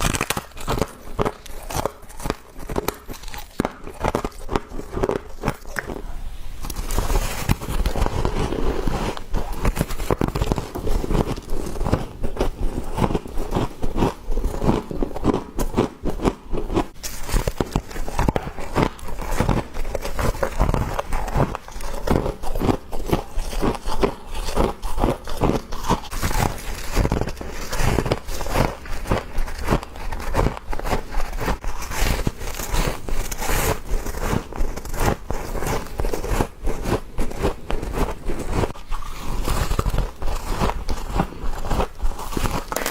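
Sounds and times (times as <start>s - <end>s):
crisp crunching of frost: 0.0s - 42.9s.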